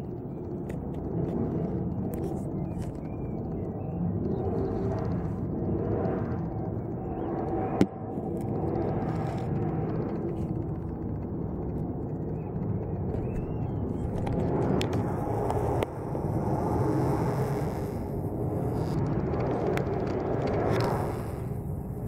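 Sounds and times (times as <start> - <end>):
jet airliner rumble: 0.0 - 22.0.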